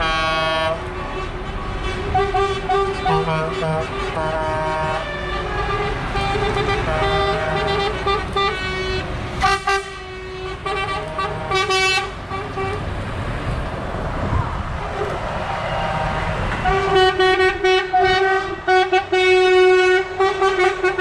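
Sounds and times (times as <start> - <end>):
high horn blast: 0.0 - 12.8, 15.4 - 21.0
lorry air horns blasting: 0.0 - 12.8, 15.4 - 21.0.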